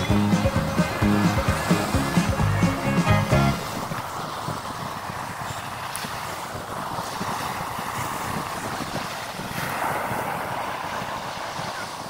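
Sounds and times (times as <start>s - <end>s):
sea surf breaking on beach: 0.0s - 12.0s
wind buffeting microphone: 0.0s - 12.0s.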